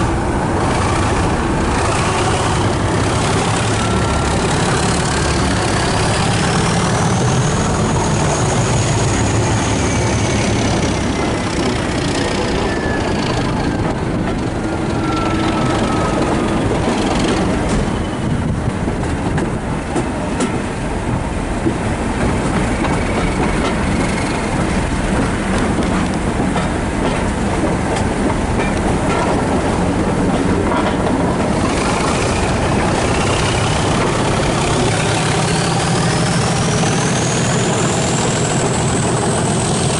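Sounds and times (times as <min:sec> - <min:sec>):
train squealing: 0:00.0 - 0:18.8, 0:22.3 - 0:27.4, 0:28.1 - 0:39.9
train wheels rumbling on track: 0:00.0 - 0:39.9.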